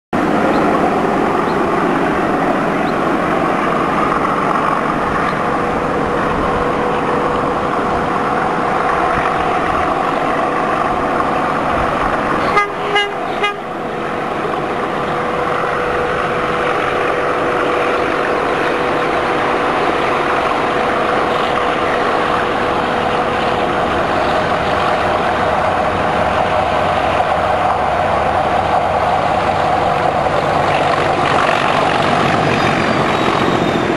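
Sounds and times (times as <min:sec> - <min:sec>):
diesel locomotives under full power: 0:00.2 - 0:33.9.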